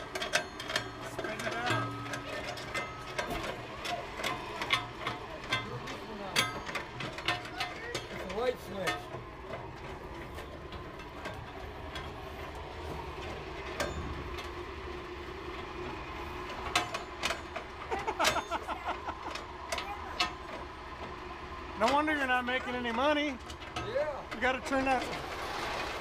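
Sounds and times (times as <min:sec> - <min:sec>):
machinery humming: 0:00.0 - 0:26.0
sharp mechanical clicks and knocks: 0:00.0 - 0:26.0.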